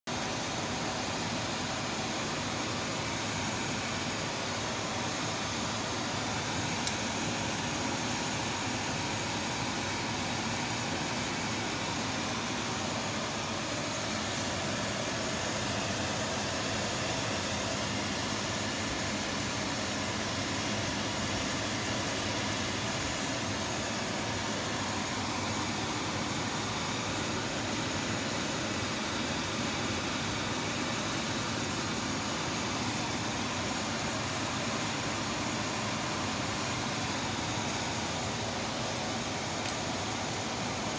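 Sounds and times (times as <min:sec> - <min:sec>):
fan-like hiss: 0:00.1 - 0:40.9.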